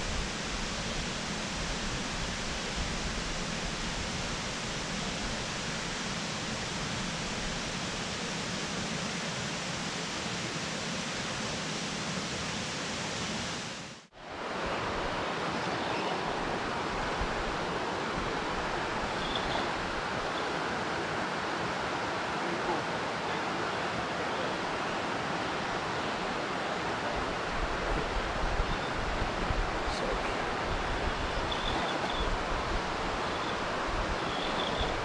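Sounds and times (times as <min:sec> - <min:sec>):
creek water rushing over rocks: 0:00.0 - 0:35.0.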